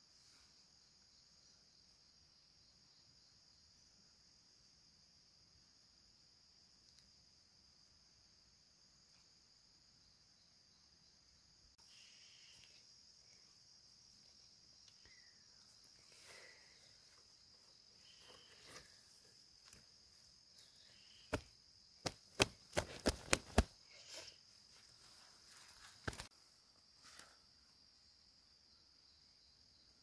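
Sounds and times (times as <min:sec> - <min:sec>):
insects buzzing: 0:05.5 - 0:30.0.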